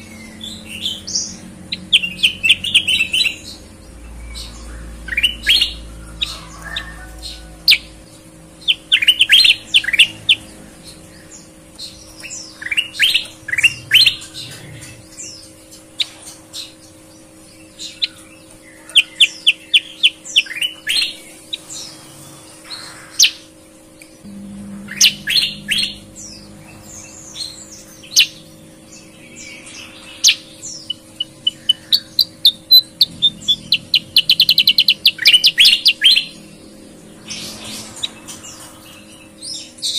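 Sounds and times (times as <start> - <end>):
bulbul singing: 0.0 - 39.9
faint steady hum: 0.0 - 39.9.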